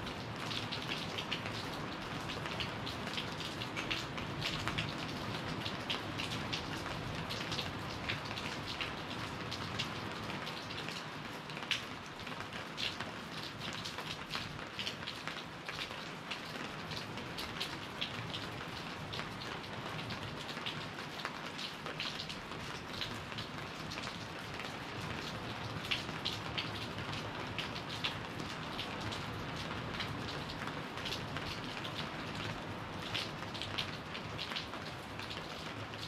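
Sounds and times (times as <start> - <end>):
raindrops splashing close by: 0.0 - 36.0
steady rain hiss: 0.0 - 36.0.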